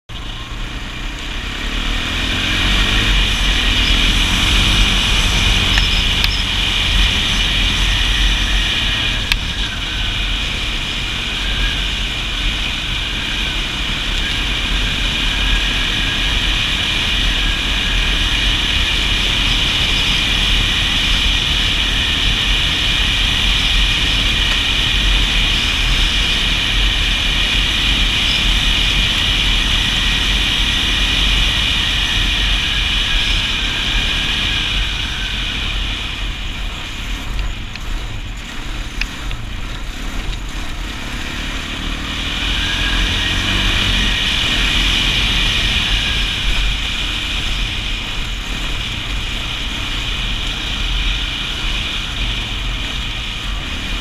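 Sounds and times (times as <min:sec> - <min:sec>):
quad bike engine revving: 0:00.1 - 0:54.0.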